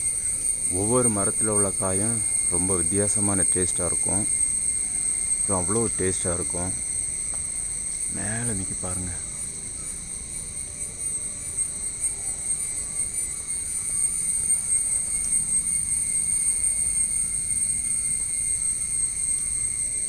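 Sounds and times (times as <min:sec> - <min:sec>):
insects shrilling: 0:00.0 - 0:20.0.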